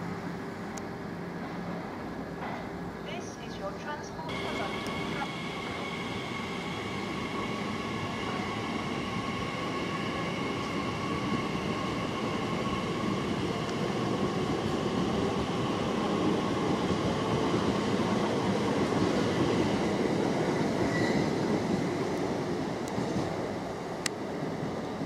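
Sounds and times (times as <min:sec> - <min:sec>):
electric train whine: 0:02.9 - 0:25.0.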